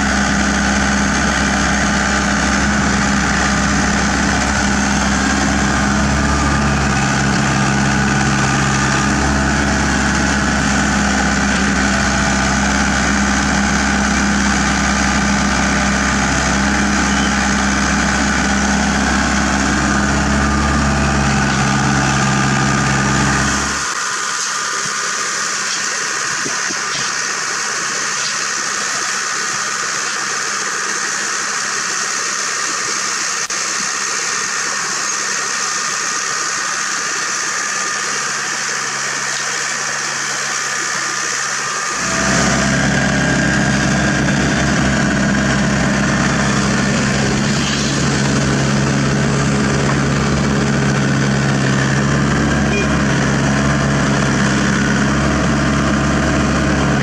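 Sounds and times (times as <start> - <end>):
diesel engines running: 0.0 - 57.0
excavator digging soil: 0.0 - 57.0
low engine hum: 0.0 - 57.0.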